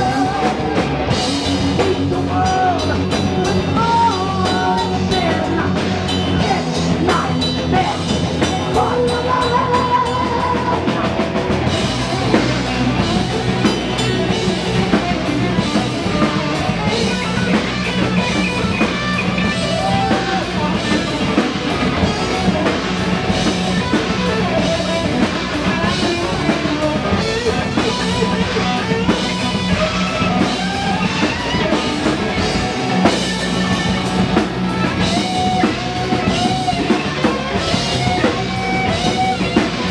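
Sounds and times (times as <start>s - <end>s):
heavy metal band playing: 0.0s - 39.9s.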